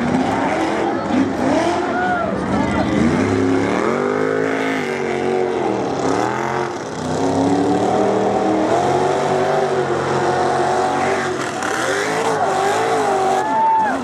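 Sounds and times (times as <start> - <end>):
truck engine revving hard: 0.0 - 14.0.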